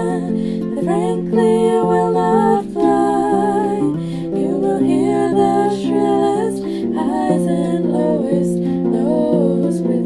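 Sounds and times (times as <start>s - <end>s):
soft sung melody: 0.0s - 10.0s.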